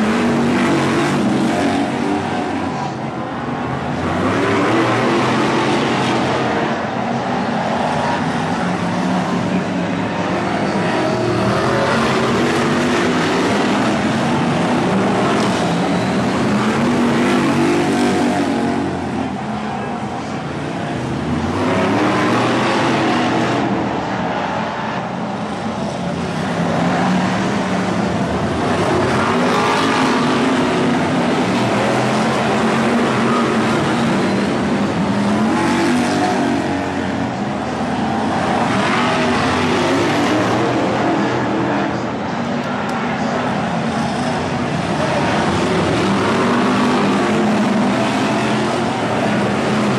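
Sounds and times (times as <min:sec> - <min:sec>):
racing car engines accelerating: 0:00.0 - 0:49.9.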